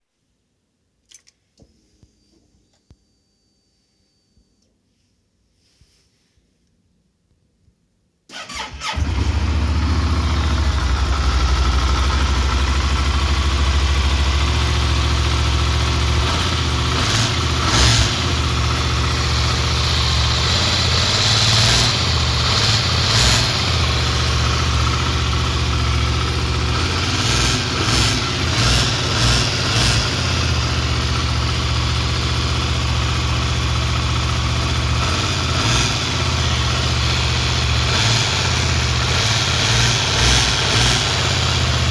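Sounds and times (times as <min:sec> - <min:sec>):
motorcycle engine starting and idling: 0:08.3 - 0:41.9.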